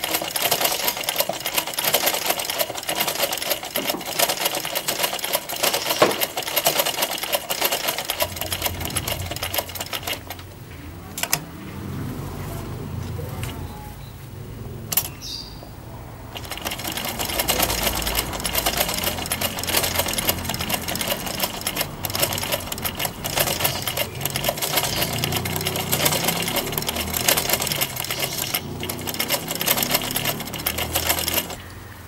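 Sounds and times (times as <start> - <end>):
sewing machine stitching: 0.0 - 10.6, 16.3 - 31.6
sewing machine click: 0.0 - 11.5, 16.4 - 31.6.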